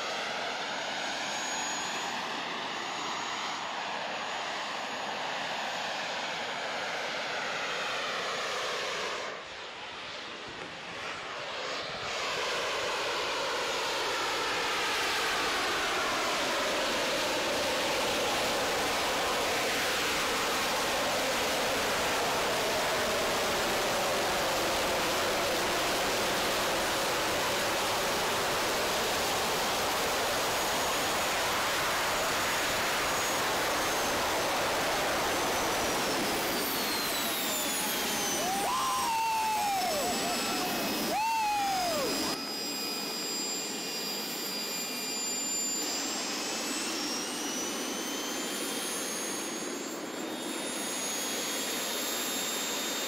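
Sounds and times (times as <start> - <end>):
engine whine spooling down: 0.0 - 53.0
jet engine roar: 0.0 - 53.0.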